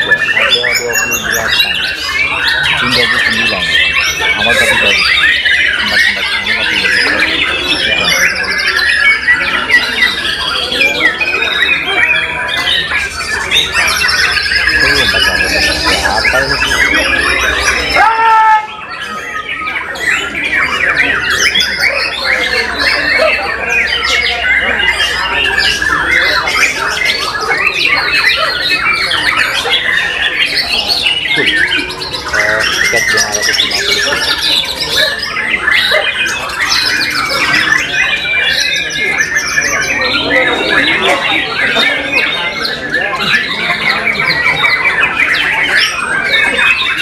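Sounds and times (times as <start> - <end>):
birds singing whistles and trills: 0.0 - 47.0.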